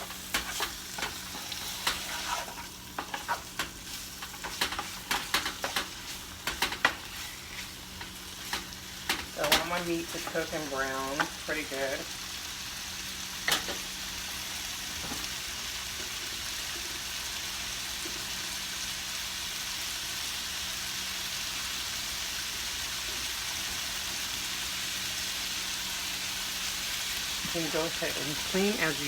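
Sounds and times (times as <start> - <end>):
chicken sizzling in a pan: 0.0 - 29.0.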